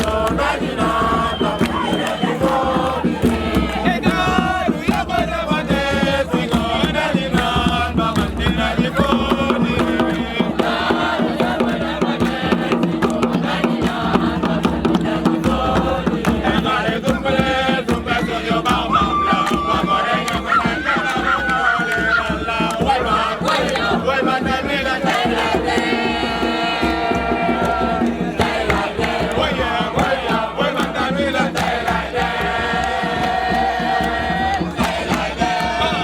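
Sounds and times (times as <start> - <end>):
young voices chanting a song: 0.0 - 36.0.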